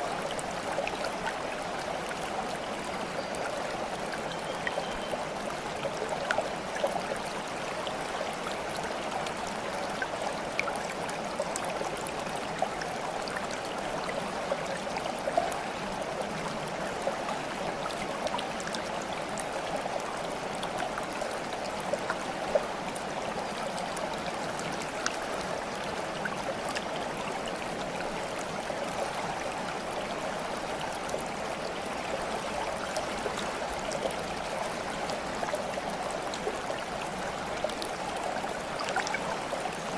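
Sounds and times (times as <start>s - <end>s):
water flowing in a stream: 0.0s - 39.9s
water splashes and drips: 0.0s - 39.9s.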